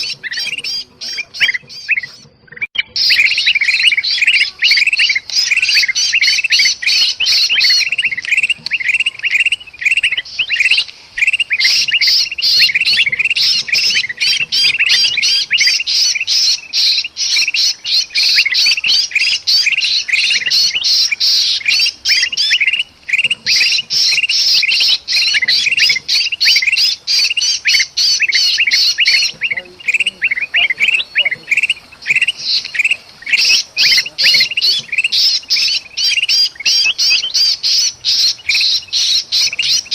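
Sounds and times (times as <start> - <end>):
bird distress calls: 0.0 - 39.9
bulbuls chattering: 0.0 - 39.9.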